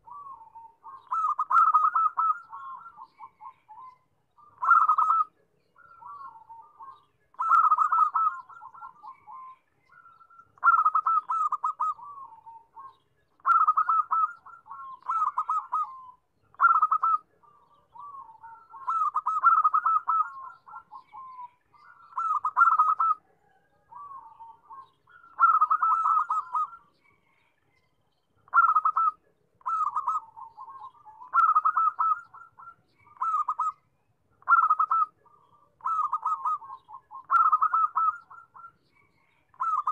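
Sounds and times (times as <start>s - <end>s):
dove cooing: 0.0s - 26.9s, 28.5s - 33.8s, 34.4s - 39.9s.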